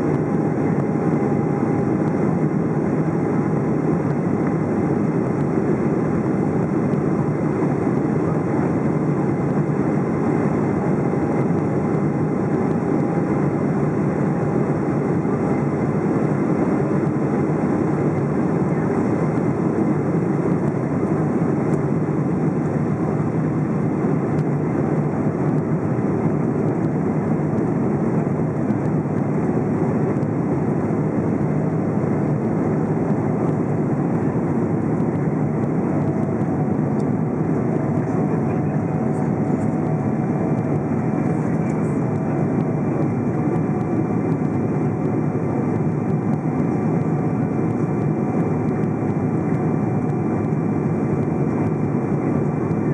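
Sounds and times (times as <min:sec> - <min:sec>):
airplane cabin engine rush: 0:00.0 - 0:52.9.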